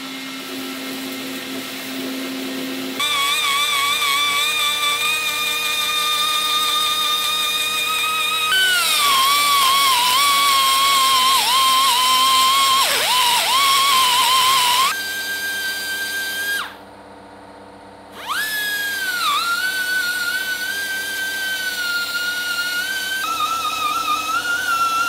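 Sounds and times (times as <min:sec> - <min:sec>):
die grinder whining: 0:00.0 - 0:16.9, 0:18.1 - 0:25.0.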